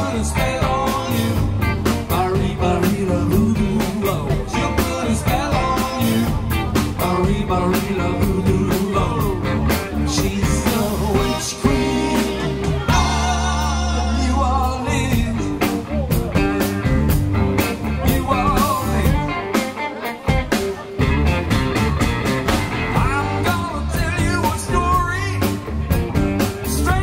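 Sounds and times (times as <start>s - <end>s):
person singing: 0.0s - 17.1s, 17.8s - 20.3s, 22.9s - 25.7s
bass guitar: 0.0s - 27.0s
drum kit: 0.0s - 27.0s
electric guitars: 0.0s - 27.0s.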